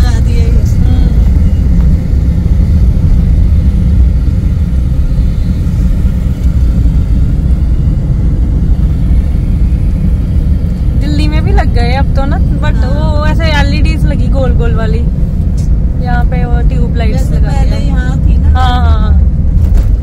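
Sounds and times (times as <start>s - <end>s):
vehicle road and engine rumble: 0.0s - 20.0s.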